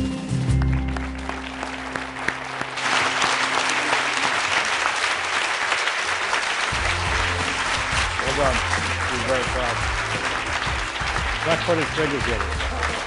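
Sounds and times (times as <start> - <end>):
background music: 0.0 - 13.0
audience applauding: 0.4 - 13.0.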